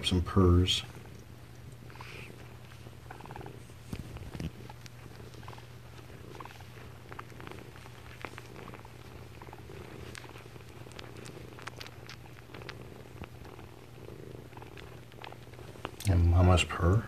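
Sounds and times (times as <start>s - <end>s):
cat purring: 0.0s - 17.0s
small clicks and rustles: 0.8s - 16.2s.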